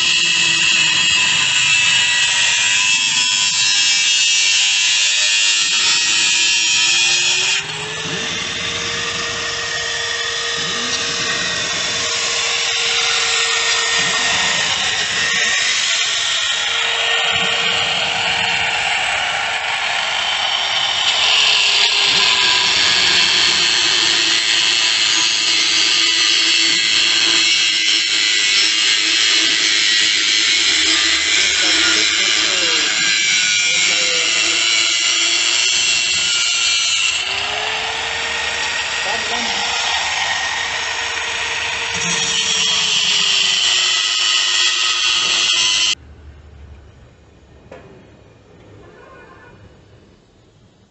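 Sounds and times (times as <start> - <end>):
angle grinder cutting metal: 0.0 - 46.0.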